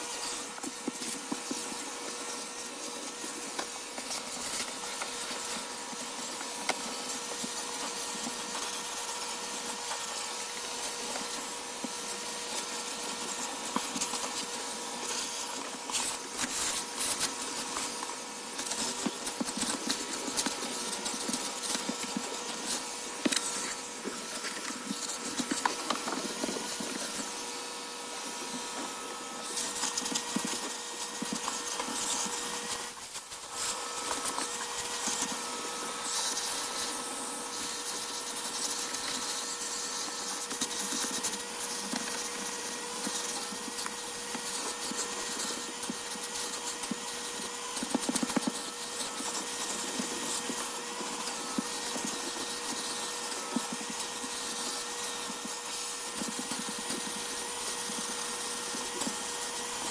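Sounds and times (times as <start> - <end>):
small electric motor running: 0.0 - 59.9.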